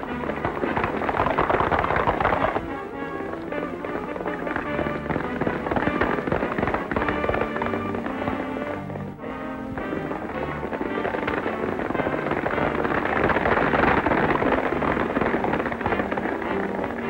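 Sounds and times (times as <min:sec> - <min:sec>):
film music score: 0:00.0 - 0:17.0
galloping horse hoofbeats: 0:00.0 - 0:17.0.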